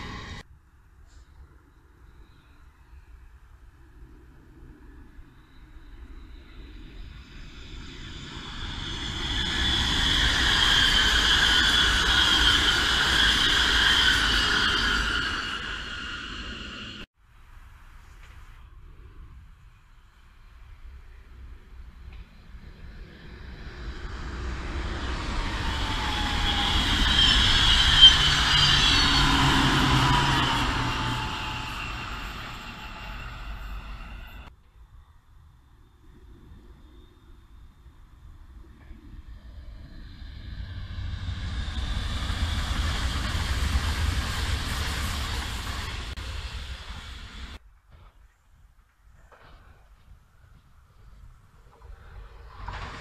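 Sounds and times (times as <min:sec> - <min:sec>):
electric train passing at speed: 0:00.0 - 0:17.9, 0:18.5 - 0:47.6, 0:51.4 - 0:53.0
faint high whine: 0:00.0 - 0:52.3.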